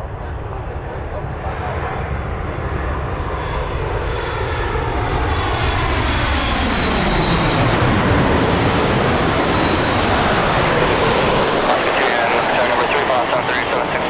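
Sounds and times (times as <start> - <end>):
jet airliner engines passing: 0.0 - 14.0.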